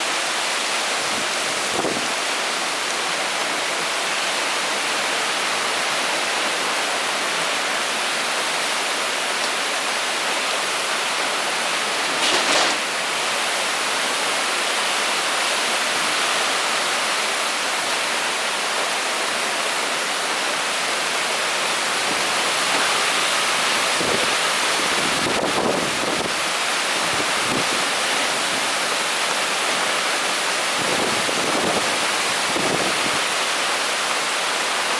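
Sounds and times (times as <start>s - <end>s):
heavy rain and wind: 0.0s - 34.9s.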